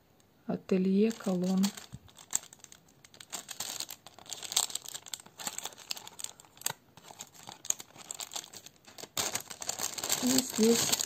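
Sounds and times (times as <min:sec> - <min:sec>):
paper envelope crinkling: 0:01.0 - 0:11.0.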